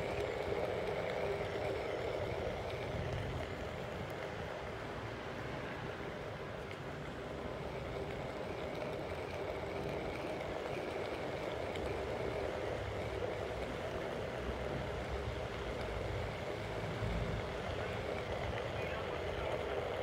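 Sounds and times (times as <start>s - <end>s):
electric board motor hum: 0.0s - 20.0s.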